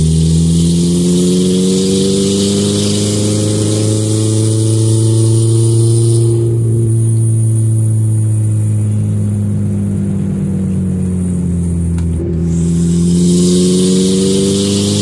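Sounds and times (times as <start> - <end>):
car engine and loud exhaust: 0.0 - 15.0.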